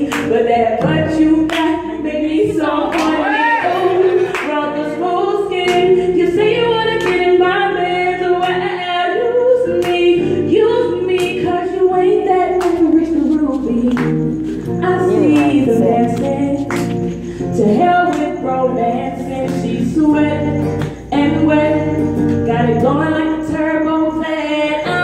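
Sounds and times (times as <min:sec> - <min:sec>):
electric guitar strumming: 0:00.0 - 0:25.0
woman singing into microphone: 0:00.0 - 0:25.0.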